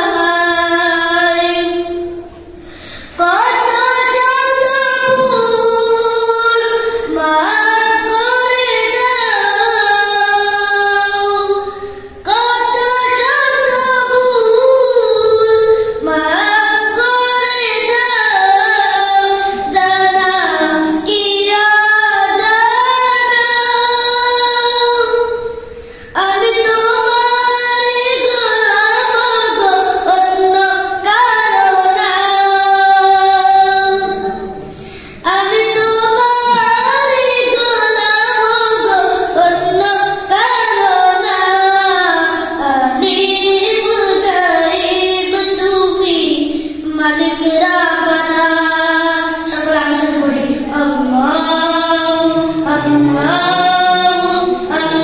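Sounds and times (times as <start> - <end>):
boy singing: 0.0 - 55.0.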